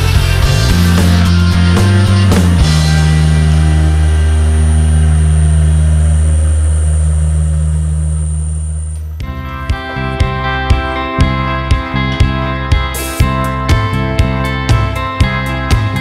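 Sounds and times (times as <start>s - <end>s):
rock music with drums and guitar: 0.0s - 7.7s, 9.0s - 16.0s.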